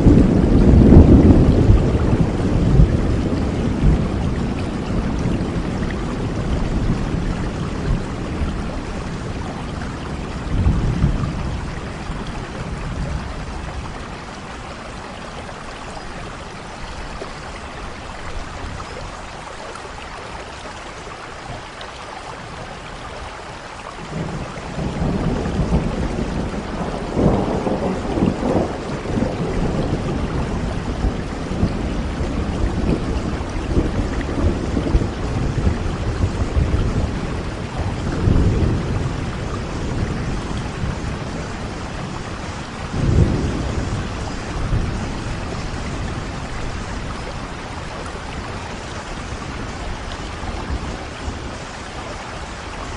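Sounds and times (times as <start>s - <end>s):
thunder rumbling: 0.0s - 19.2s, 24.0s - 52.9s
steady rain falling: 0.0s - 52.9s.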